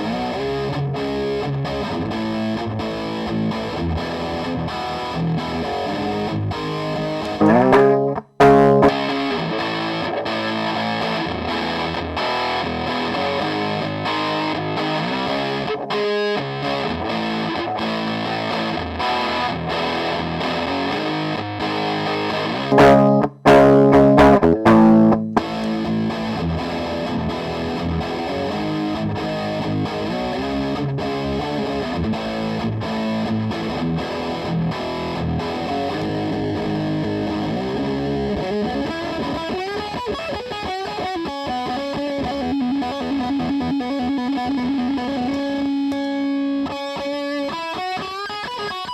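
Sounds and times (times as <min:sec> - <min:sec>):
distorted electric guitar: 0:00.0 - 0:48.9.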